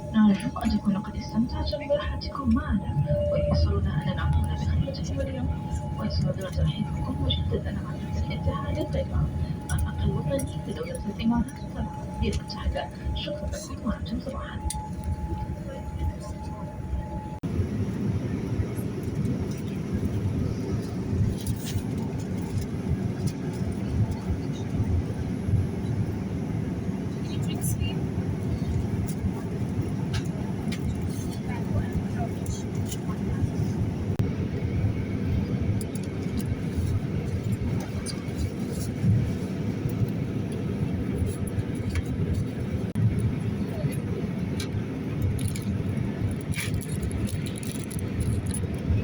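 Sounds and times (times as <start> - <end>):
aircraft rumble: 0.0 - 49.0.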